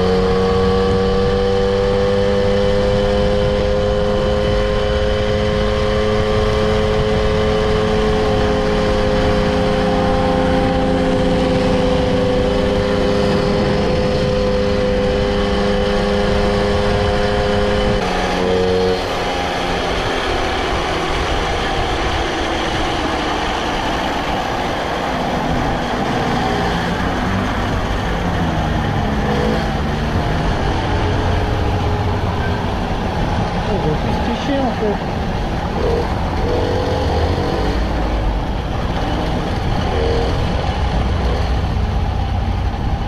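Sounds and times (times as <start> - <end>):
road and wind noise: 0.0 - 43.0
vehicle engine running: 6.4 - 43.0.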